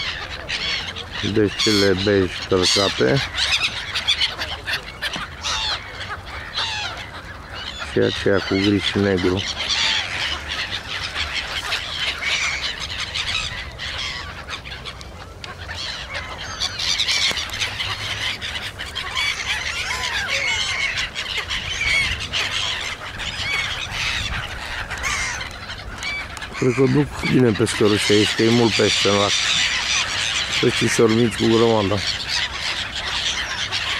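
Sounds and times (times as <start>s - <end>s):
gulls calling: 0.0s - 33.9s.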